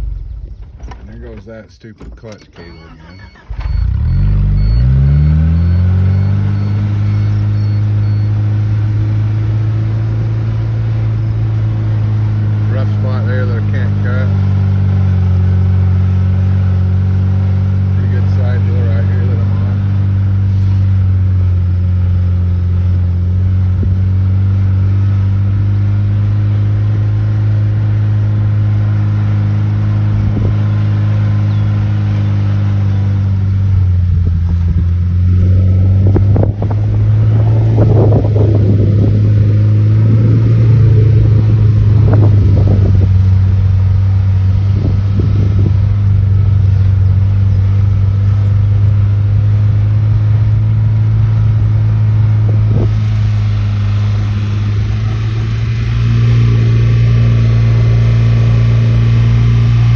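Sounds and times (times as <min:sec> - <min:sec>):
car engine running under load: 0:00.0 - 0:59.9.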